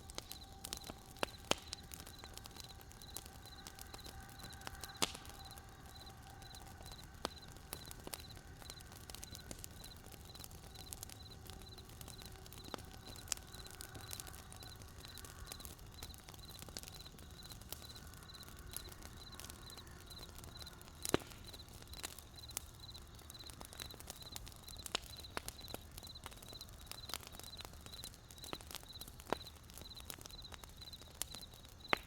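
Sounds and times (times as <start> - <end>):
campfire crackling and popping: 0.0 - 32.0
cricket chirping: 0.0 - 32.0.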